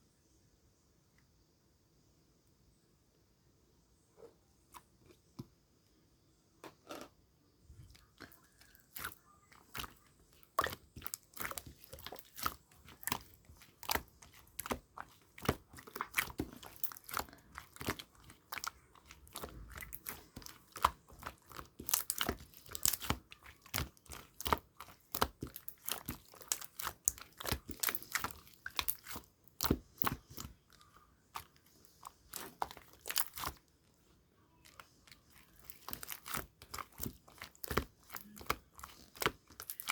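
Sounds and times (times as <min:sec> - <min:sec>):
slime squelching with sticky clicks: 0:07.8 - 0:39.9.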